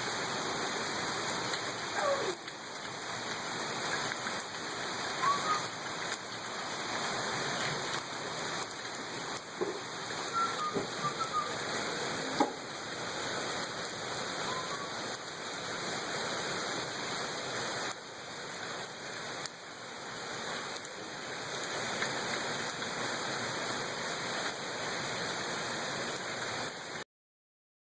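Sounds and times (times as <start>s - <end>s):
steady rain hissing: 0.0s - 27.0s.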